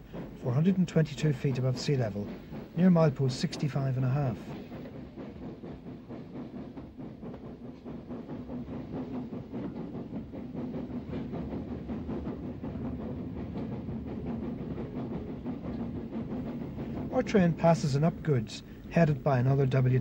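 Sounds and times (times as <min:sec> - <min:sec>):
steam locomotive exhaust beats: 0:00.0 - 0:20.0
train wheels on rails: 0:00.0 - 0:20.0.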